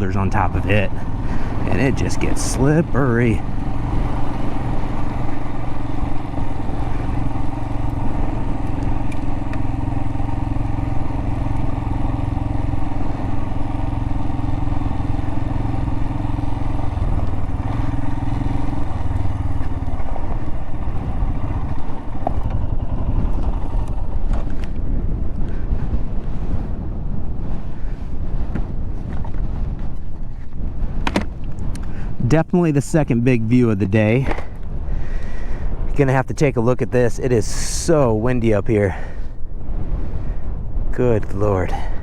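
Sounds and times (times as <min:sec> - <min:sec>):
motorcycle engine running: 0:00.0 - 0:36.1
wind rumble on microphone: 0:00.0 - 0:42.0.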